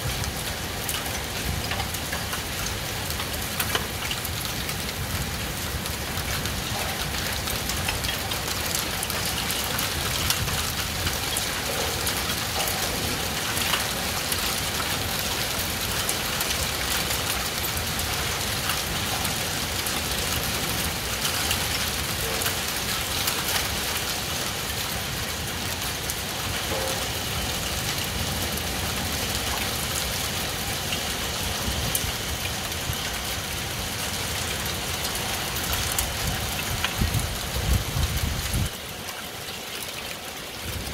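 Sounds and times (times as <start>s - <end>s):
heavy rain falling: 0.0s - 40.9s
sharp raindrop impacts: 0.0s - 40.9s.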